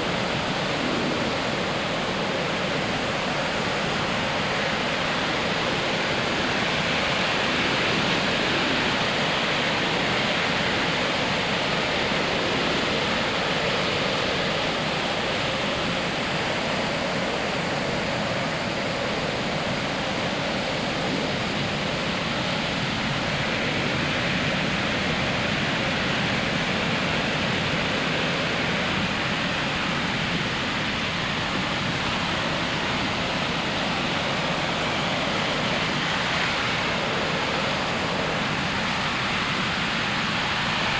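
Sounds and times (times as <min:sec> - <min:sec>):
ocean surf on a beach: 0:00.0 - 0:40.9.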